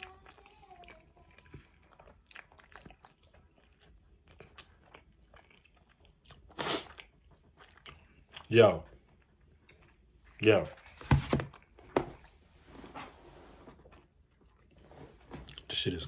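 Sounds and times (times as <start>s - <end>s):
person chewing food: 0.0s - 12.9s, 13.5s - 15.7s.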